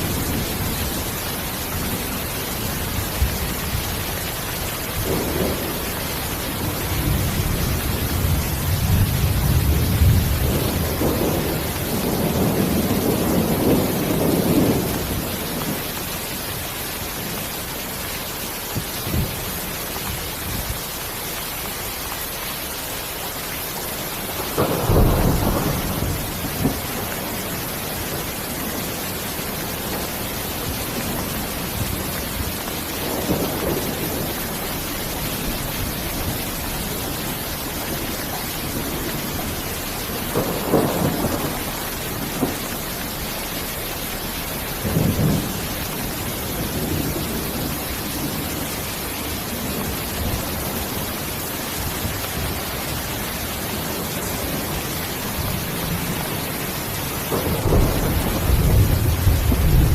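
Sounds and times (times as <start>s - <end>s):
rolling thunder: 0.0s - 16.1s, 24.2s - 59.9s
steady rain: 0.0s - 59.9s.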